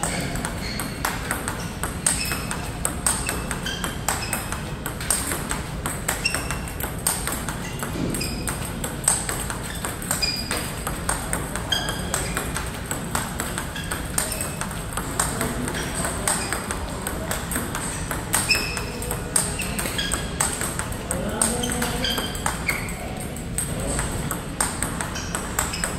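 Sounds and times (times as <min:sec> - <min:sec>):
ball bouncing on table: 0:00.0 - 0:25.9
ball clicking off paddles: 0:00.0 - 0:25.9.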